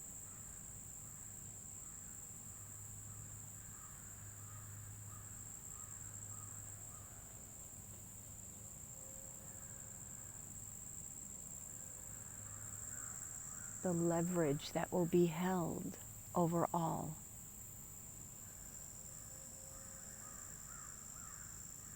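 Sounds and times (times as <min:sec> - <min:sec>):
crickets chirring: 0:00.0 - 0:21.9.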